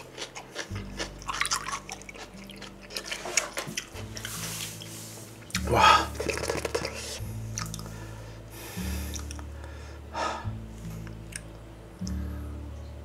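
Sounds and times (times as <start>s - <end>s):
slow low chord music: 0.0s - 13.0s.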